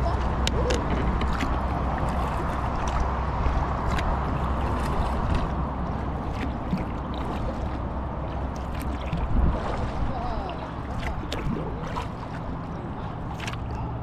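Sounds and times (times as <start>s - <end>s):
paddle splashing water: 0.0s - 14.0s
steady low rumble: 0.0s - 14.0s.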